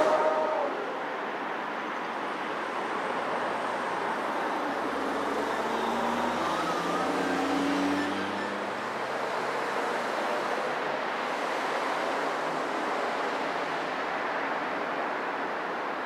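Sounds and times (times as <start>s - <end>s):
road traffic hiss: 0.0s - 16.0s.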